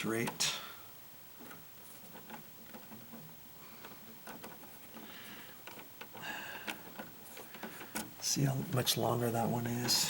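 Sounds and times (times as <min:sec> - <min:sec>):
electrical wires rustling and clicking: 0:01.3 - 0:10.0.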